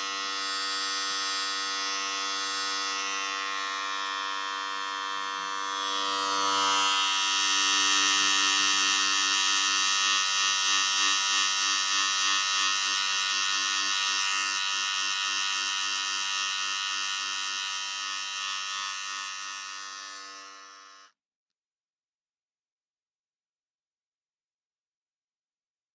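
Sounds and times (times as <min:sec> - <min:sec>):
electric hair clippers buzzing: 0:00.0 - 0:21.2.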